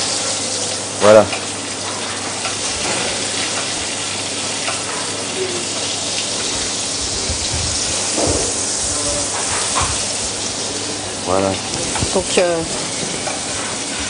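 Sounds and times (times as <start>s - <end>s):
fish sizzling in a pan: 0.0s - 14.0s.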